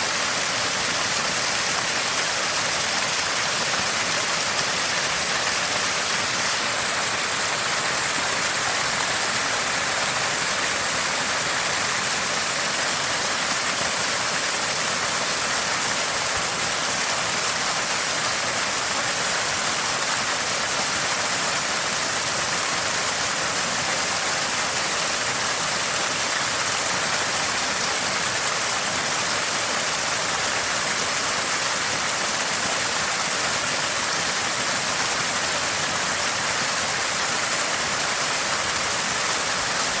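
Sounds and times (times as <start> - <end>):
spring water gushing and gurgling: 0.0 - 40.0.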